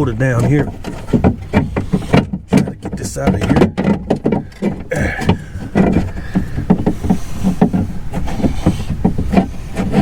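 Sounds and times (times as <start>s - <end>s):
metal parts knocking and rattling: 0.0s - 10.0s.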